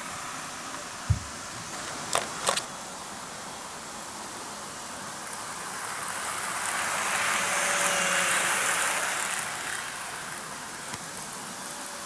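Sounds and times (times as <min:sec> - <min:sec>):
faint motor whine: 0:00.0 - 0:12.0
model train wheels whirring on rails: 0:00.0 - 0:12.0.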